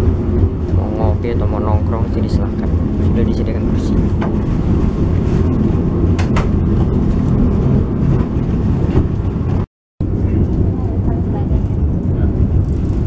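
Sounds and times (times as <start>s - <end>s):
train rumbling inside coach: 0.0s - 13.0s.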